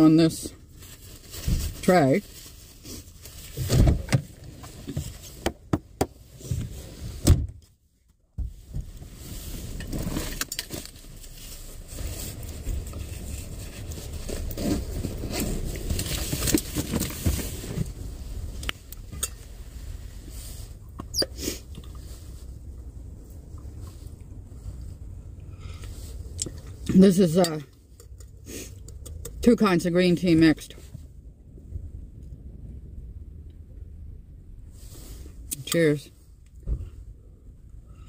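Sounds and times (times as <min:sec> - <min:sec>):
low steady rumble: 0:00.0 - 0:38.0.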